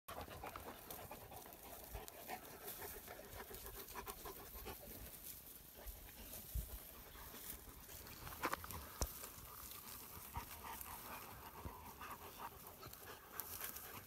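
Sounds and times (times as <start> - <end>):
dog panting: 0.1 - 14.0
dry stubble crackling: 0.1 - 14.0.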